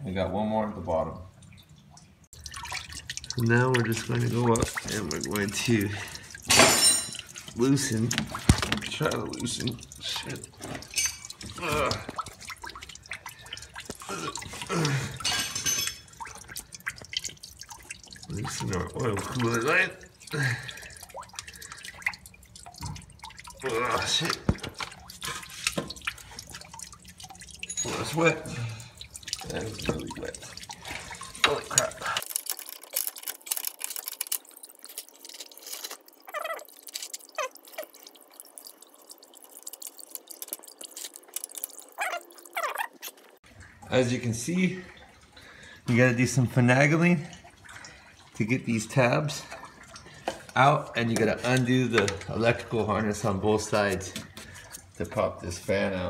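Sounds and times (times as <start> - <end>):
fluid dripping: 0.7 - 56.0.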